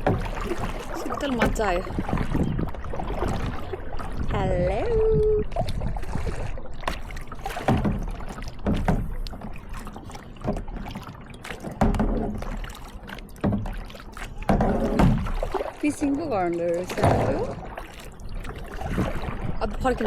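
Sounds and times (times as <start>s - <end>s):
paddle splashing in water: 0.0s - 20.0s.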